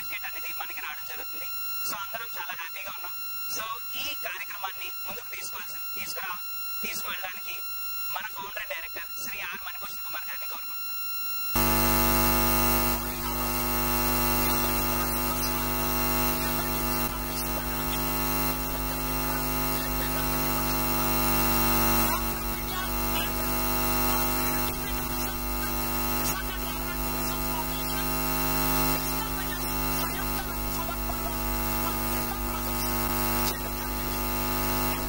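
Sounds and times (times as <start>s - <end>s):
electrical hum and buzz: 0.0s - 35.0s.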